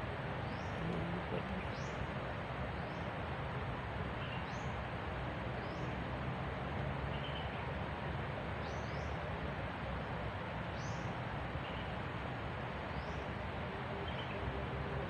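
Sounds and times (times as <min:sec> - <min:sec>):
steady forest hiss: 0:00.0 - 0:15.0.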